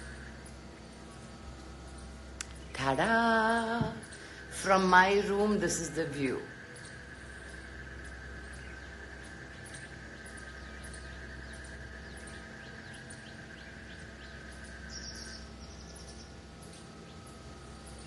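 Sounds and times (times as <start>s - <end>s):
birds chirping: 0.0s - 18.0s
steady high drone: 0.0s - 18.0s.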